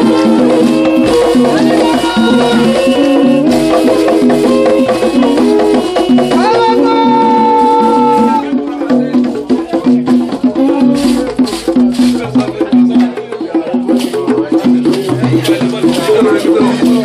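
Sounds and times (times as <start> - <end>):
shaker percussion: 0.0 - 17.0.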